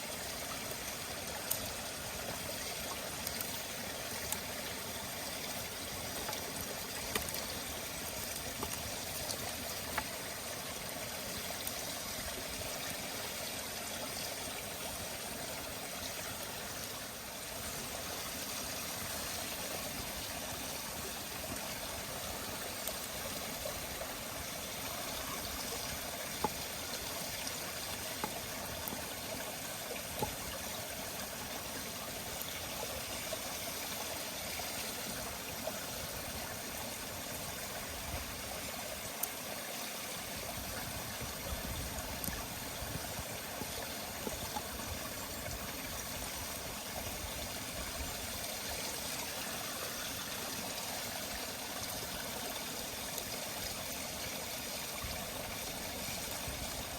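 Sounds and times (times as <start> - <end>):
campfire hissing: 0.0 - 56.9.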